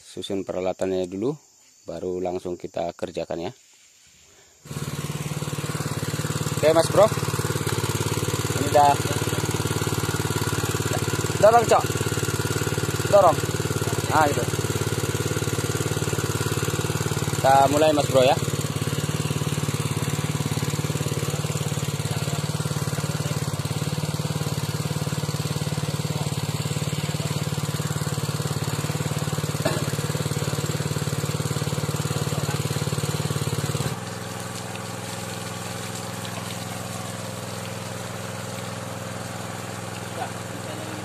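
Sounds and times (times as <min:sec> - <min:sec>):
small engine running: 0:04.6 - 0:41.0.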